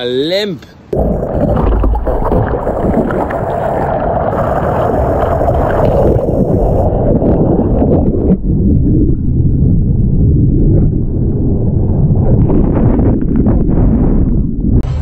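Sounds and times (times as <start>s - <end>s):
wind buffeting camera: 0.9s - 15.0s.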